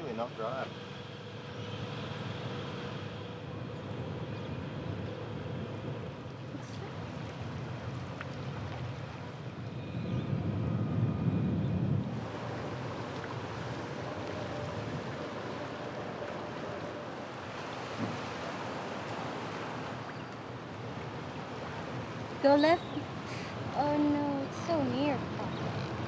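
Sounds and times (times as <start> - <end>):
rush of wind and water: 0.0 - 26.0
wind rumbling on microphone: 1.8 - 26.0.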